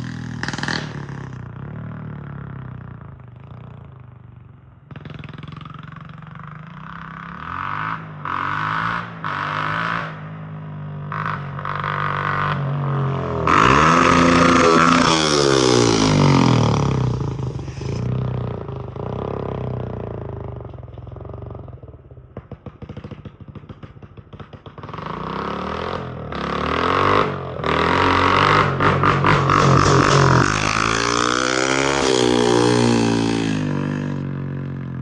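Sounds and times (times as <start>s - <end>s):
motorcycle engine revving and idling: 0.0s - 35.0s.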